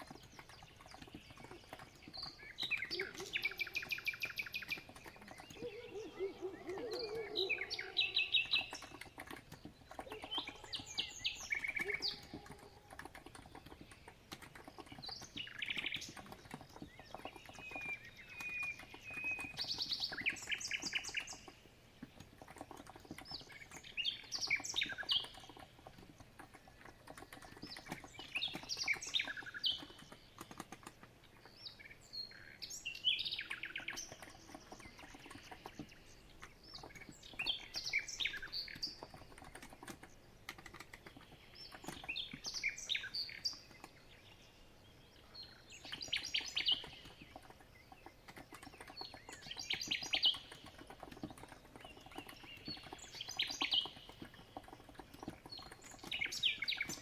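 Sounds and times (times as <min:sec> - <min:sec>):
soft keyboard typing: 0:00.0 - 0:32.5, 0:33.2 - 0:44.4, 0:45.3 - 0:57.0
songbirds chirping: 0:00.0 - 0:57.0.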